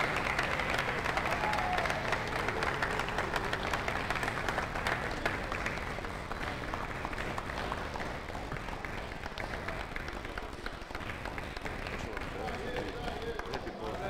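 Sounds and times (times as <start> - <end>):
small crowd clapping: 0.0 - 14.0.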